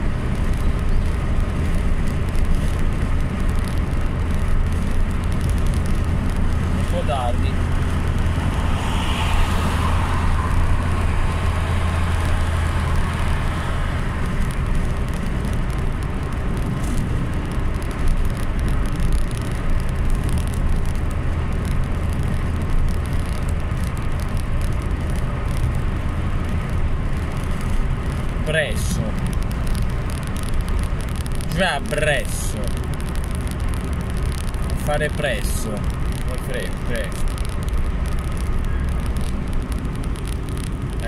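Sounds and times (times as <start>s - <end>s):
road noise: 0.0s - 41.0s
vehicle engine rumble: 0.0s - 41.0s.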